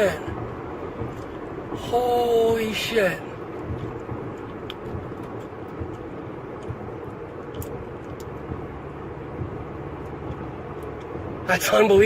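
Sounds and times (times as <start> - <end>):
vehicle rumbling: 0.0 - 12.0.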